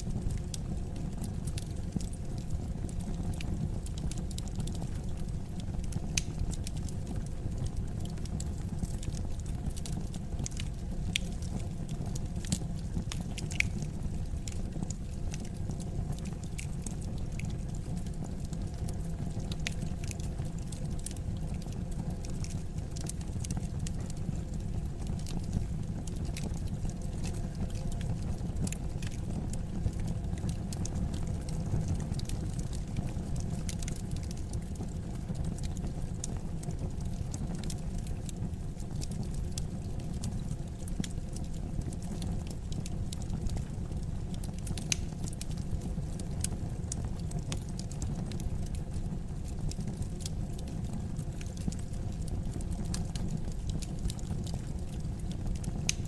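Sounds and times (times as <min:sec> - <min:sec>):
low rumble of burning fire: 0:00.0 - 0:56.0
wood fire crackling and popping: 0:00.0 - 0:56.0.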